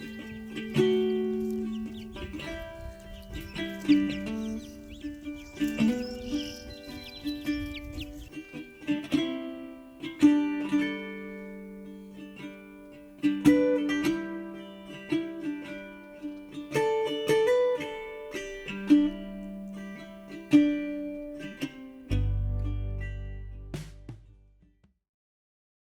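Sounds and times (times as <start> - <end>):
plucked string melody: 0.0 - 24.6.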